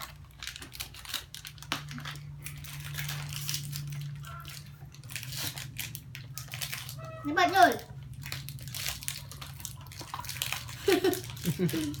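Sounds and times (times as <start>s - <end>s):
plastic snack packets crinkling: 0.0s - 12.0s.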